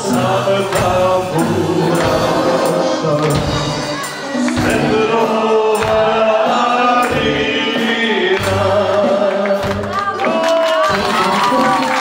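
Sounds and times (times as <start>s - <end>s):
amplified backing music: 0.0s - 12.0s
man singing into microphone: 0.0s - 12.0s.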